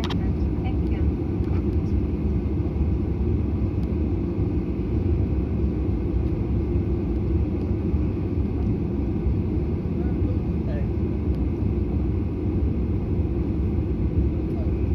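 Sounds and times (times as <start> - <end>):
airliner engine rumble in cabin: 0.0 - 14.9.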